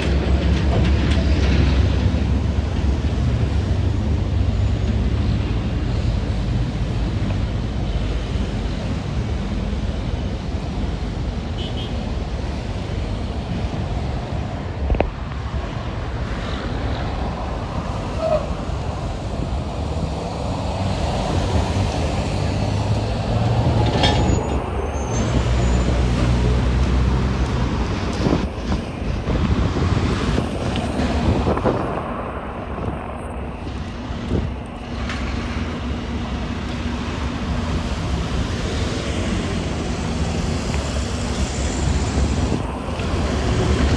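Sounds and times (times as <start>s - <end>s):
diesel engines droning: 0.0s - 43.9s.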